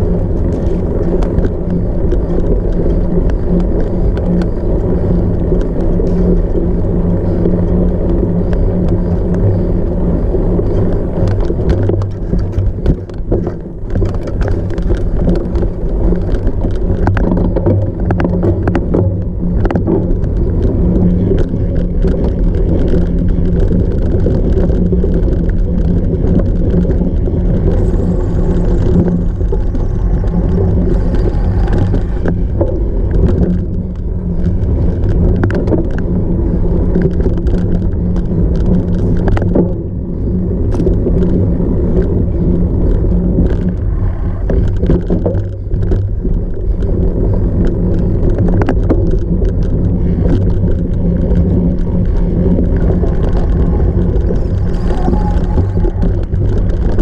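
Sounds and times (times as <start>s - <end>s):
bike knocking and rattling: 0.0s - 57.0s
bike rumbling off-road: 0.0s - 57.0s
wind buffeting microphone: 0.0s - 57.0s.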